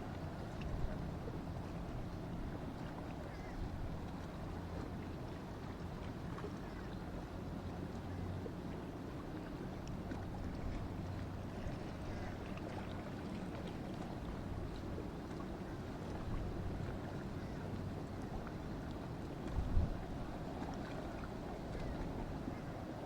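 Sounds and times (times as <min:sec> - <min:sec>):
boat engines humming: 0:00.0 - 0:23.0
water noise: 0:00.0 - 0:23.0
wind: 0:00.0 - 0:23.0.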